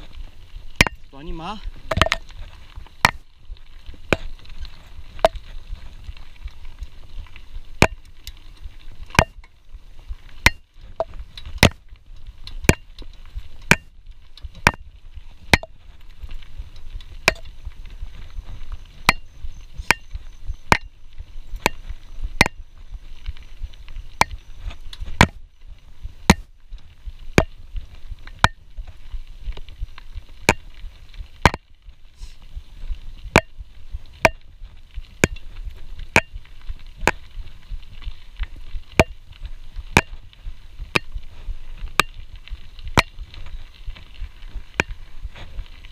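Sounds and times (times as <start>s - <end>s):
steady low rumble: 0.0s - 45.9s.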